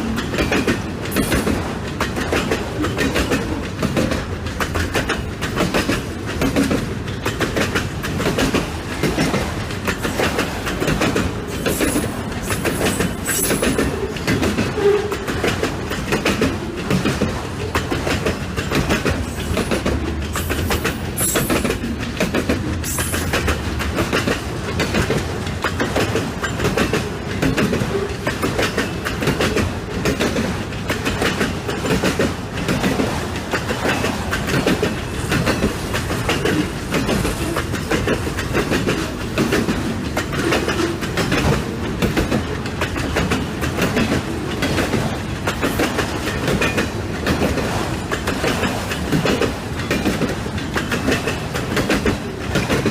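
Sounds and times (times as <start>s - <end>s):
train wheels clicking over rail joints: 0.0s - 52.9s.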